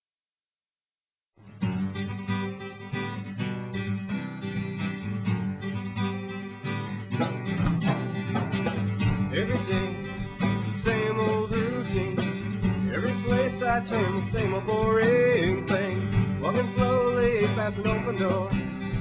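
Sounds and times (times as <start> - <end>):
acoustic guitar playing: 1.4 - 19.0.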